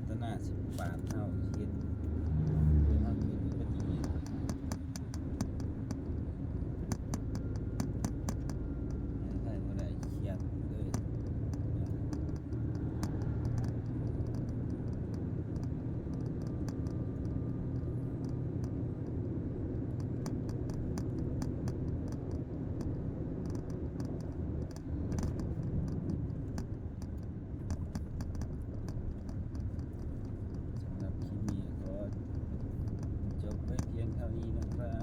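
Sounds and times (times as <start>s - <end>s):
light clicks and rattles: 0.0s - 35.0s
truck engine drone: 0.0s - 35.0s.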